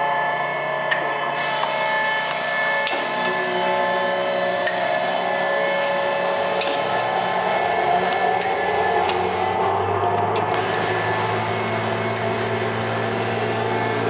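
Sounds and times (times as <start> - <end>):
grinder mechanical whine: 0.0 - 14.0
low hum: 0.0 - 14.0.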